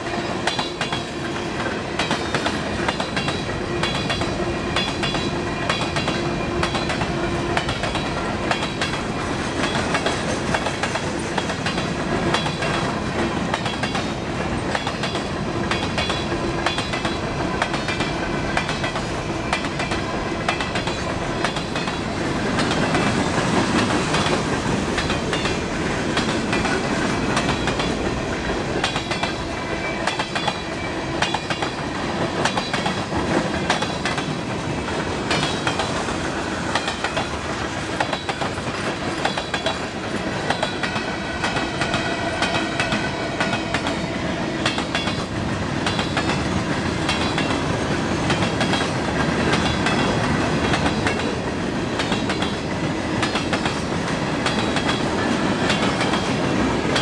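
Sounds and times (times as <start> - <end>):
railroad cars rumbling past: 0.0 - 57.0
wheels clicking over rail joints: 0.4 - 57.0.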